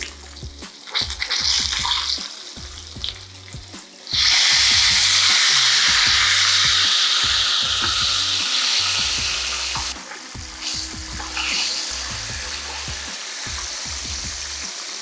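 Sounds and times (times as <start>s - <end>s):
crackly oil bubbling: 0.0s - 15.0s
hot oil sizzling: 0.0s - 15.0s.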